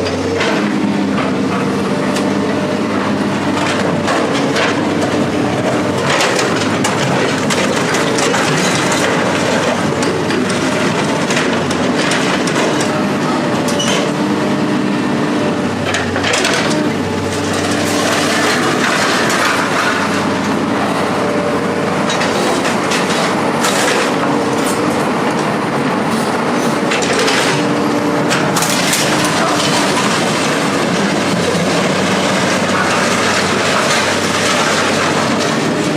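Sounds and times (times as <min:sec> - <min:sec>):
heavy machine engine running: 0:00.0 - 0:35.9
scrap metal crunching and clanking: 0:00.1 - 0:14.2, 0:15.8 - 0:25.5, 0:26.1 - 0:35.9.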